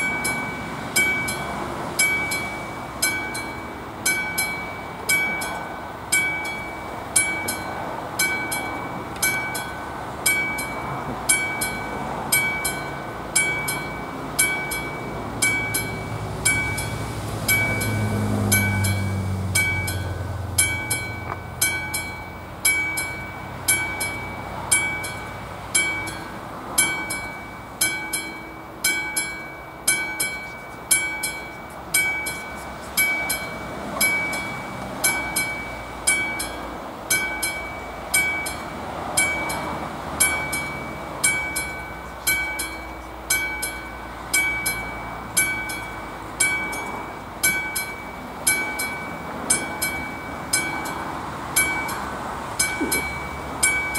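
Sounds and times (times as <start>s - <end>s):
level crossing warning bell: 0.0s - 53.9s.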